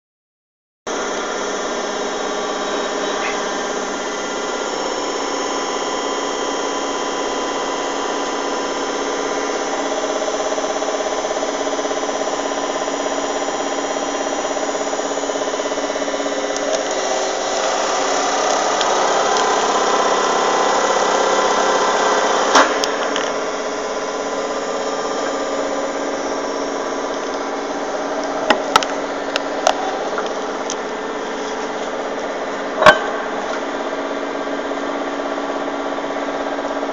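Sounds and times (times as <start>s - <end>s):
hydraulic pump running: 0.9s - 36.9s.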